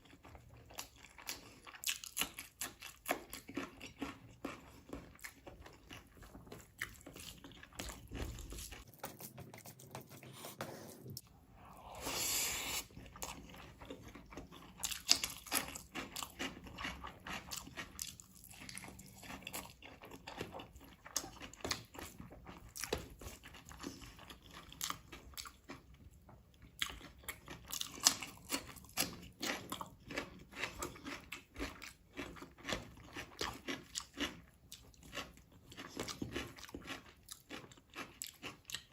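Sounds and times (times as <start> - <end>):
chewing and crunching: 0.0 - 11.3, 12.2 - 38.9.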